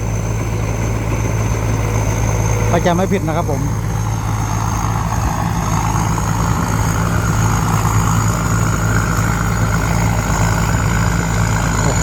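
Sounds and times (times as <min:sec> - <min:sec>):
combine harvester engine running: 0:00.0 - 0:12.0
high-pitched whine: 0:00.0 - 0:12.0.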